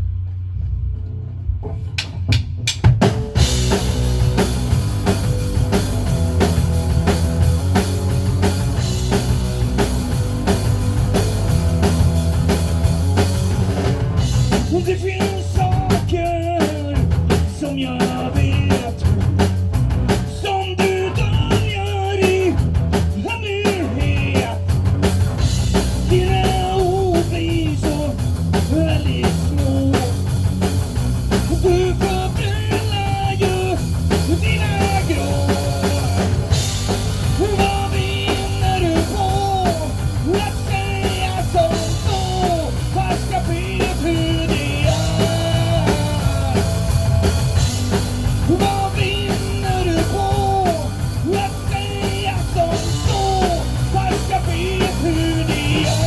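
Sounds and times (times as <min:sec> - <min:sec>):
rock band music: 0:00.0 - 0:56.0.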